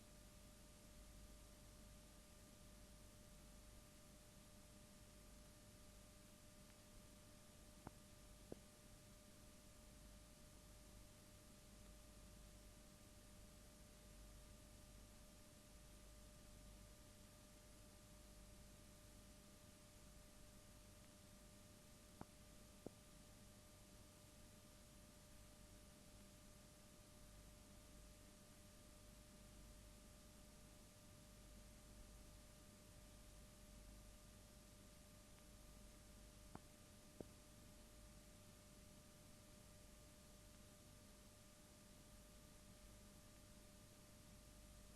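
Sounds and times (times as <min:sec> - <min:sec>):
faint electrical hum: 0:00.0 - 0:44.9.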